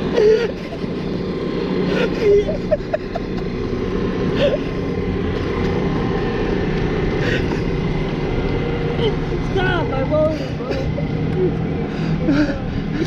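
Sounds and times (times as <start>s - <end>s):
electric boat motor drone: 0.0s - 13.0s.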